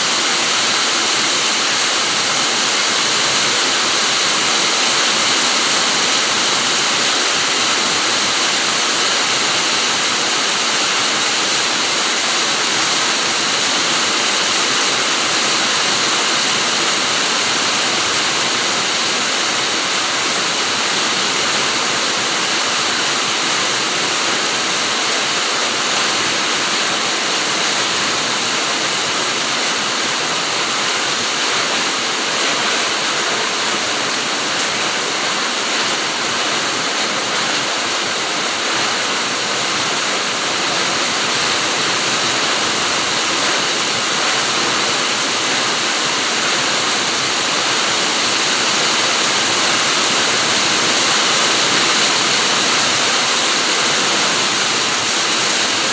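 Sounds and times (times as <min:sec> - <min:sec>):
rain falling steadily: 0:00.0 - 0:55.9.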